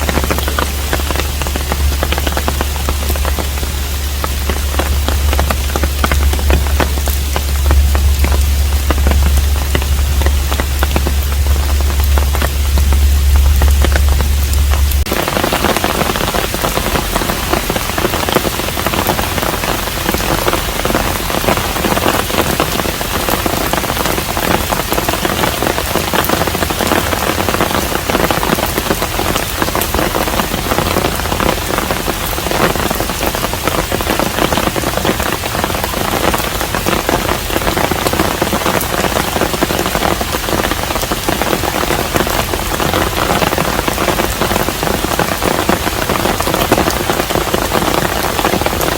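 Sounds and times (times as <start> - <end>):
rain falling on a house: 0.0 - 48.9.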